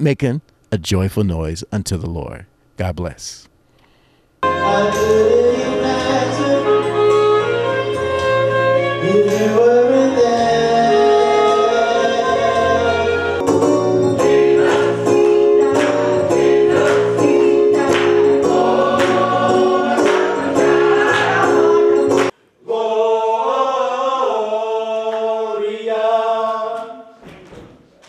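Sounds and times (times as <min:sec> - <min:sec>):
choir holding sung notes: 0:04.4 - 0:27.2
gospel choir music with beat: 0:04.4 - 0:27.7.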